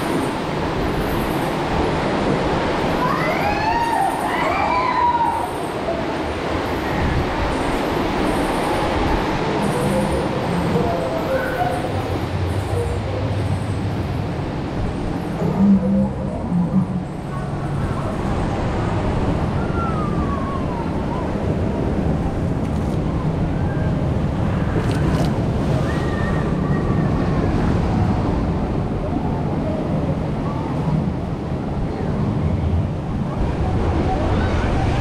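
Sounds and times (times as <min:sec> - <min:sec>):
water rushing and churning: 0:00.0 - 0:35.0
wind rumbling on microphone: 0:00.0 - 0:35.0.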